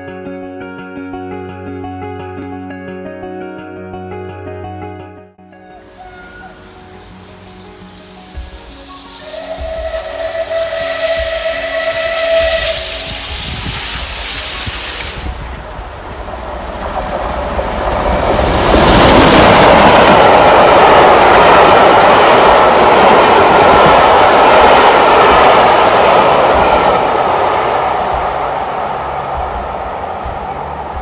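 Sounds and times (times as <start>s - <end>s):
steam train passing: 5.6s - 31.0s.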